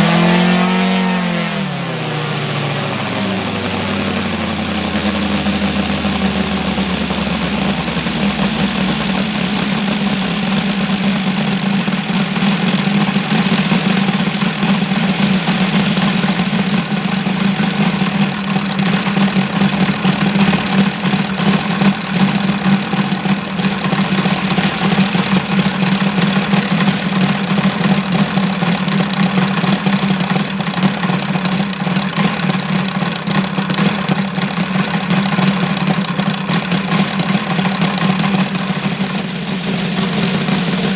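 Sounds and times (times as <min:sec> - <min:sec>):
model engine running: 0:00.0 - 0:40.9.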